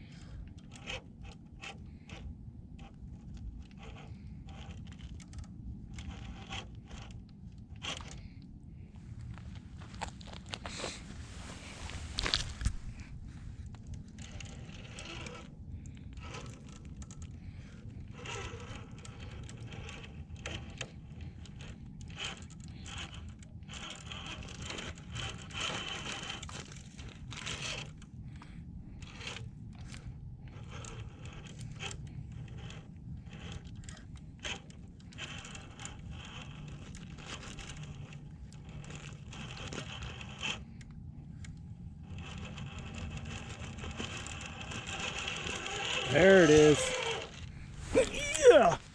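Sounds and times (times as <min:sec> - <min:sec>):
toy crawler grinding over rocks: 0:00.2 - 0:08.2, 0:09.2 - 0:28.1, 0:28.9 - 0:48.9.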